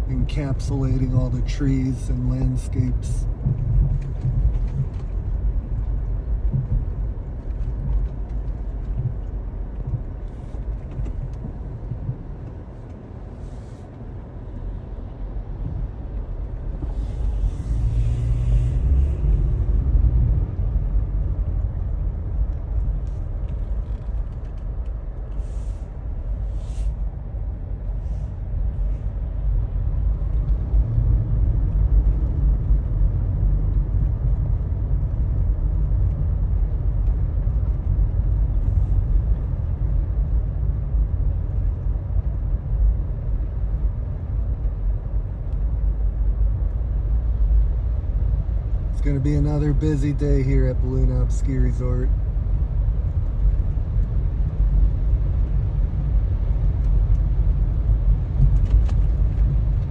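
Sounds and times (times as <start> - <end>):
vehicle engine rumble: 0.0 - 59.9.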